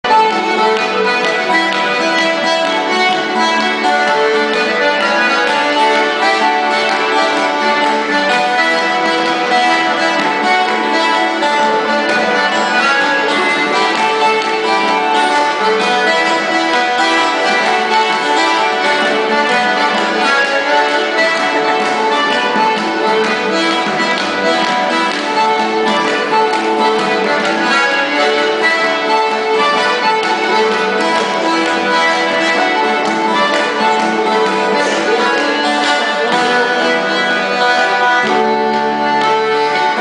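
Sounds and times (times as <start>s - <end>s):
acoustic guitar: 0.0s - 40.0s
button accordion playing a tune: 0.0s - 40.0s.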